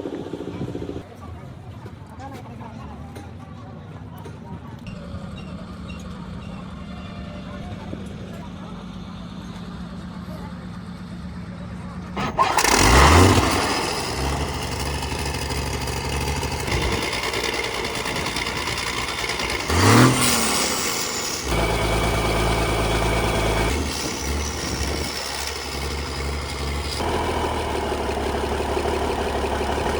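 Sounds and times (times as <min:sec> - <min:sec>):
diesel engine running: 0:00.0 - 0:01.1, 0:04.9 - 0:29.9.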